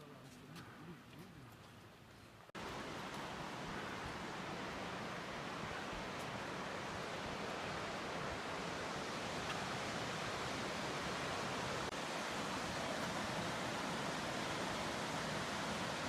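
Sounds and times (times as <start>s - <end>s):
waterfall rushing: 2.6s - 16.0s.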